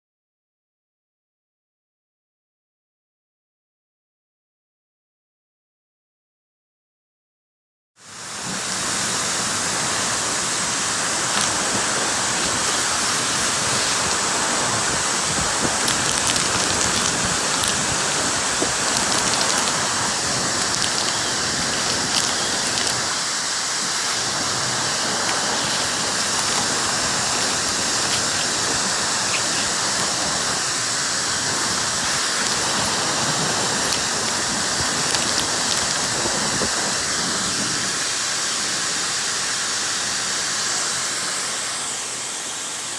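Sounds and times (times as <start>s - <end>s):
hair dryer blowing air: 8.1s - 42.9s.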